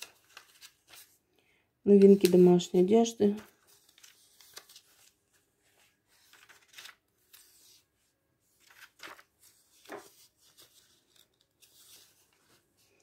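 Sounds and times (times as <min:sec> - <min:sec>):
paper pages turning: 0:00.0 - 0:01.2, 0:01.9 - 0:13.0.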